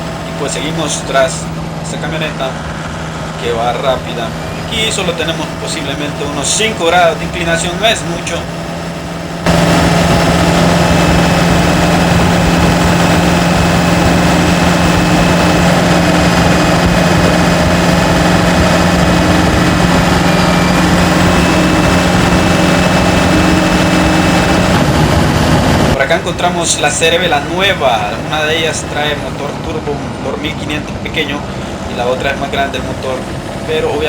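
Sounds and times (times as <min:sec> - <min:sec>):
pickup engine droning: 0:00.0 - 0:34.0
road and wind noise: 0:00.0 - 0:34.0.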